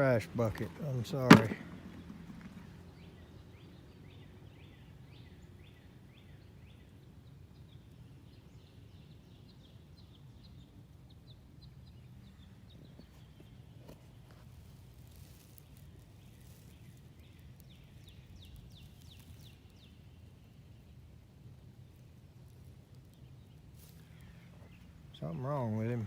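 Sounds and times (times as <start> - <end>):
faint bird song: 0.0 - 26.0.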